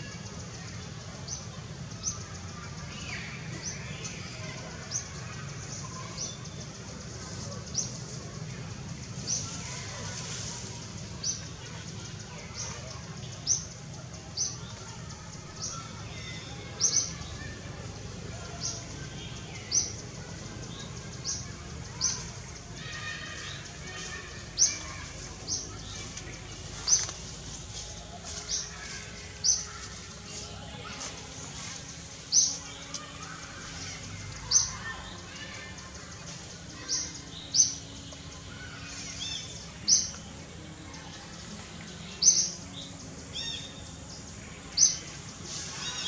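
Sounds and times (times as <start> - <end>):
forest background noise: 0.0 - 46.0.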